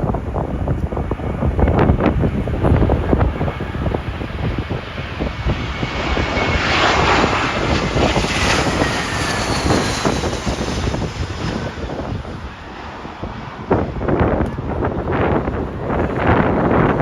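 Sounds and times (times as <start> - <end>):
jet airliner passing overhead: 0.0 - 17.0
wind buffeting microphone: 0.0 - 17.0
high engine whine: 0.2 - 16.4.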